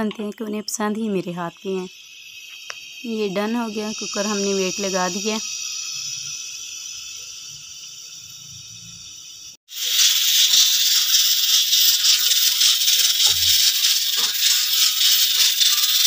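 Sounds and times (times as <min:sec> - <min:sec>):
pressure cooker hissing and rattling: 0:00.0 - 0:16.0.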